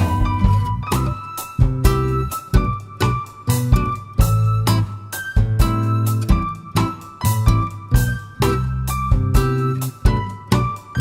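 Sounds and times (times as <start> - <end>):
keyboard notes: 0.0 - 11.0
music with steady beat: 0.0 - 11.0.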